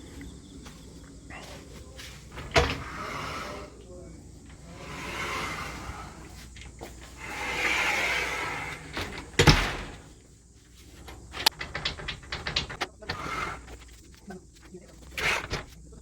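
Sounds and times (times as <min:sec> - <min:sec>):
light clicks and rattles: 0:01.1 - 0:16.0
screen door sliding and banging shut: 0:01.4 - 0:14.2, 0:14.9 - 0:15.9.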